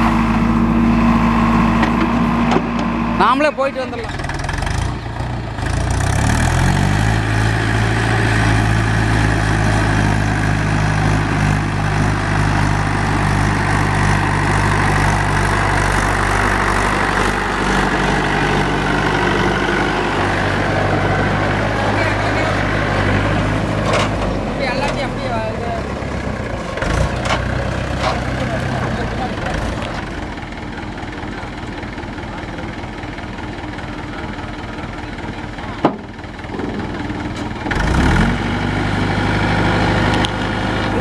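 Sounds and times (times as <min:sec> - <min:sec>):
heavy diesel engine revving: 0:00.0 - 0:31.7, 0:36.4 - 0:41.0.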